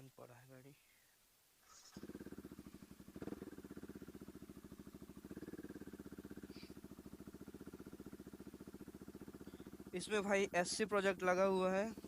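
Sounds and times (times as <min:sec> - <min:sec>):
motorcycle engine idling: 0:01.7 - 0:12.0.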